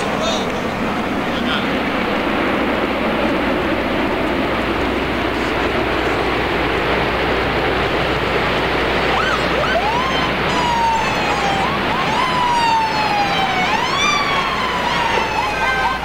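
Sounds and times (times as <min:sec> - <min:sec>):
emergency vehicle sirens: 0:00.0 - 0:16.0.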